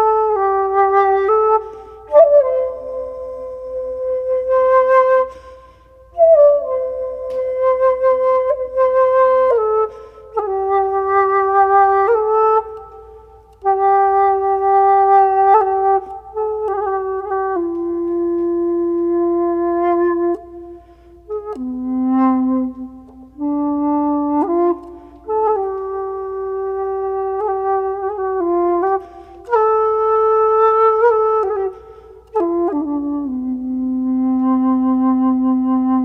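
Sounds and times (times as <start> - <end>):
slow solo melody: 0.0 - 36.0.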